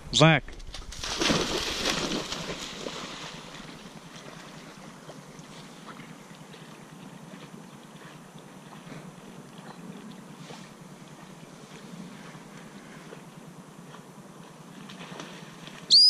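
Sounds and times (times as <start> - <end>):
dog swimming water sloshing: 0.9 - 15.9.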